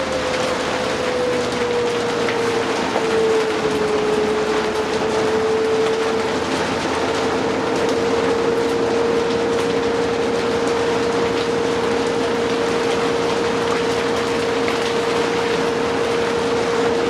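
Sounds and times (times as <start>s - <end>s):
bus engine whine: 0.0s - 17.0s
road and rain hiss: 0.0s - 17.0s.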